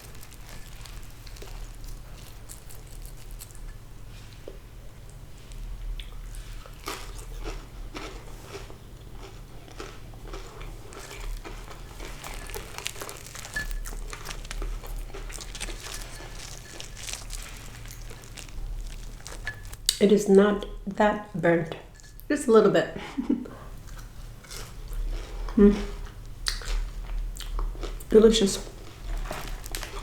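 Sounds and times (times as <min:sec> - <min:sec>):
crunchy fish being chewed: 0:00.0 - 0:20.0, 0:23.8 - 0:30.0
steady low hum: 0:00.0 - 0:30.0.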